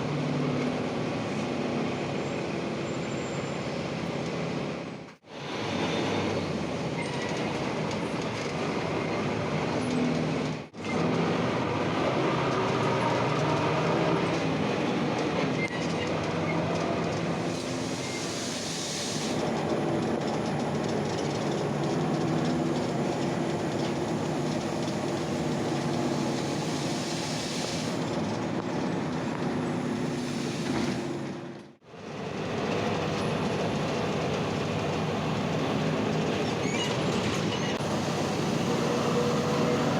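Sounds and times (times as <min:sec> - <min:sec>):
bus diesel engine: 0:00.0 - 0:39.9
road noise: 0:00.0 - 0:39.9.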